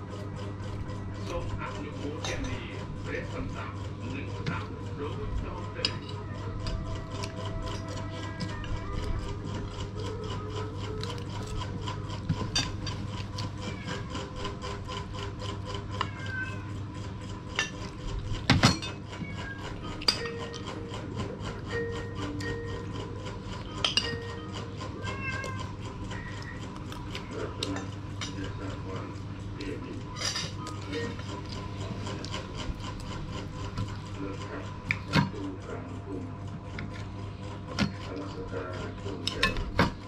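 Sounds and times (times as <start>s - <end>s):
steady low hum: 0.0s - 40.0s
spoons scraping on plates: 0.2s - 35.6s, 36.8s - 40.0s.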